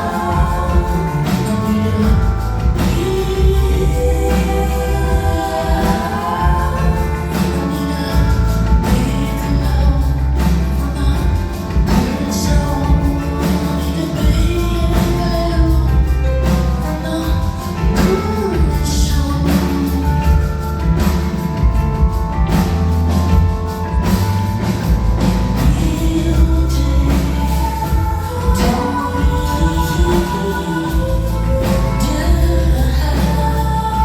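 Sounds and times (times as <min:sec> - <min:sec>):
full band playing: 0:00.0 - 0:34.0
heavy bass: 0:00.0 - 0:34.0
steady drum beat: 0:00.0 - 0:34.0
woman singing live: 0:00.0 - 0:34.0.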